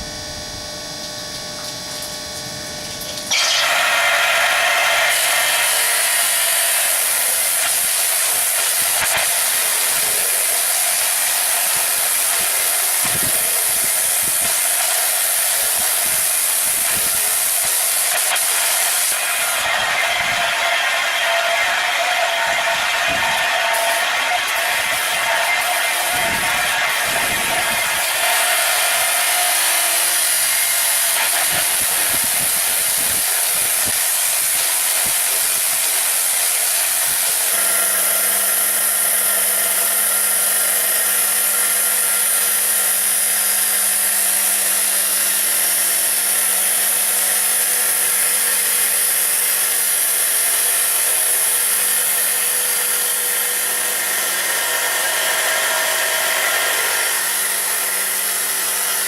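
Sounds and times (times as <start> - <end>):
diamond saw grinding stone: 3.2 - 59.0.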